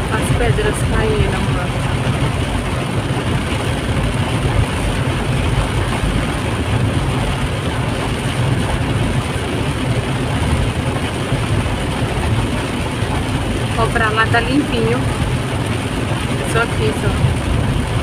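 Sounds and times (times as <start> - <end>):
car engine low rumble: 0.0 - 18.0
heavy rain on car: 0.0 - 18.0
tyres on flooded road: 0.0 - 18.0.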